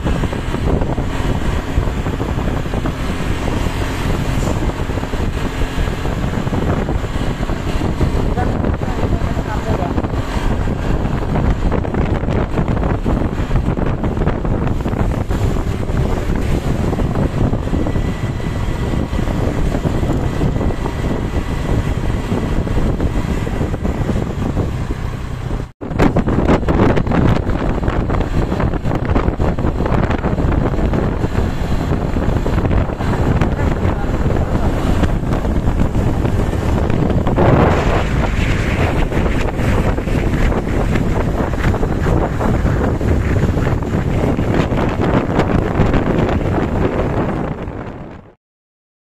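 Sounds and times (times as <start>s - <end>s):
low vehicle rumble: 0.0s - 48.4s
wind buffeting microphone: 0.0s - 48.4s.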